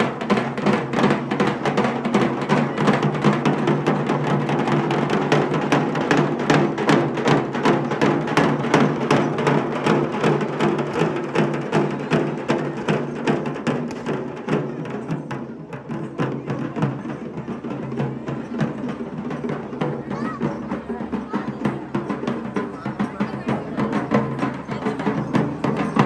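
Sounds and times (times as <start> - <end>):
barrel drums beaten fast: 0.0 - 26.0.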